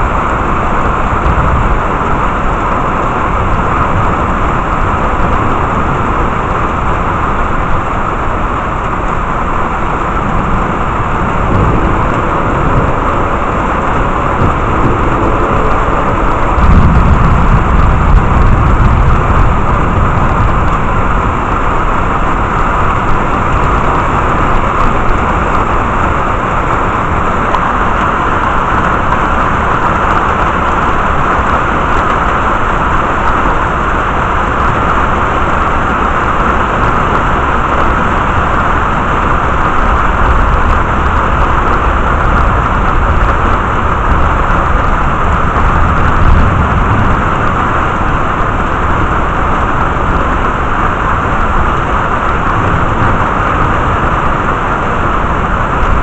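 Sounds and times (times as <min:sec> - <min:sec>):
deep rumble: 0:00.0 - 0:56.0
heavy rain: 0:00.0 - 0:56.0.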